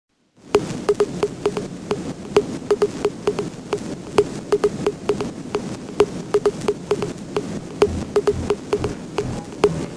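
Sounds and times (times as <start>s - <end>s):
steady hiss: 0.2s - 9.9s
sharp clicks: 0.6s - 9.9s.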